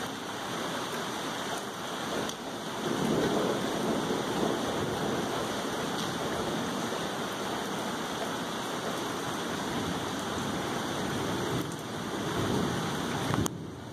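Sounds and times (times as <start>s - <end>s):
steady rain falling: 0.0s - 13.9s.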